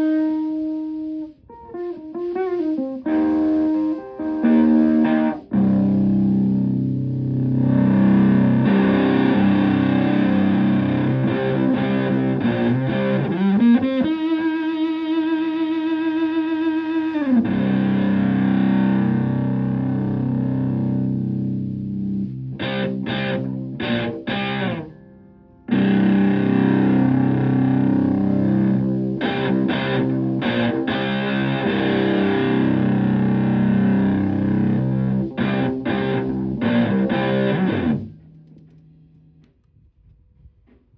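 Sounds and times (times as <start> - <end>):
fuzzed electric guitar chords: 0.0 - 39.4.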